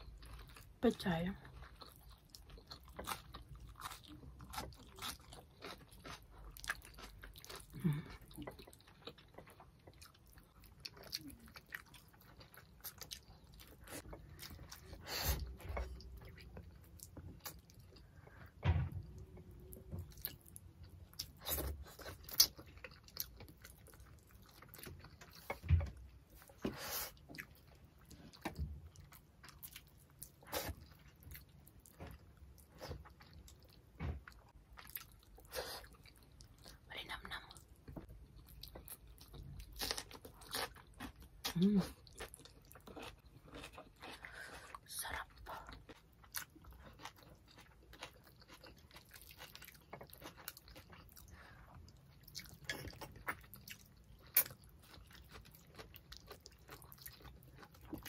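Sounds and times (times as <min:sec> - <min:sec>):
chewing and lip-smacking: 0:01.4 - 0:58.0.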